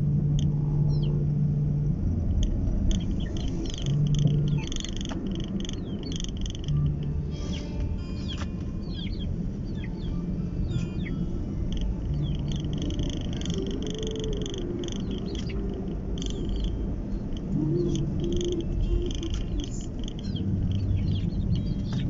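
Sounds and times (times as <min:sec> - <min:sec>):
car rumbling on road: 0:00.0 - 0:22.0
birds chirping: 0:00.8 - 0:01.2, 0:02.4 - 0:22.0.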